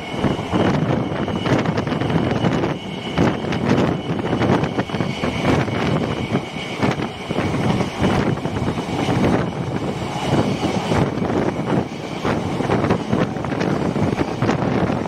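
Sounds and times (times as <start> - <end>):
train rattling: 0.0 - 15.0
train rumbling at speed: 0.0 - 15.0
wind buffeting microphone: 0.0 - 15.0.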